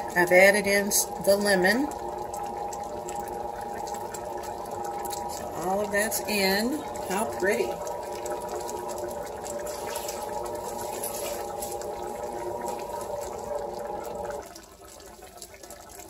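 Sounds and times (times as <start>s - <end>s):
steady multi-tone hum: 0.0s - 14.4s
sauce bubbling in skillet: 0.0s - 16.0s.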